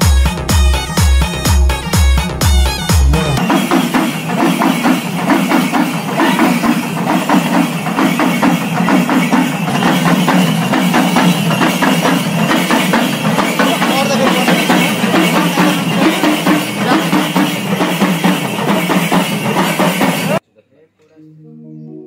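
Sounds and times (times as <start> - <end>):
fast percussion beat: 0.0 - 20.4.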